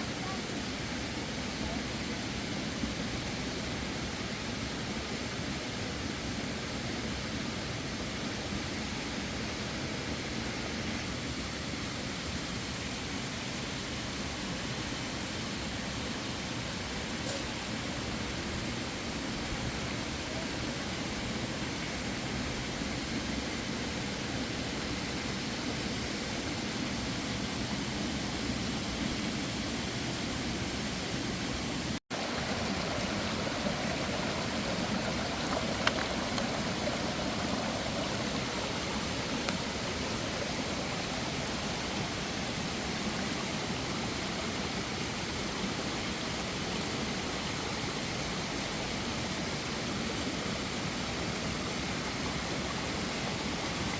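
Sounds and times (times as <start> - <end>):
rushing stream water: 0.0 - 53.9.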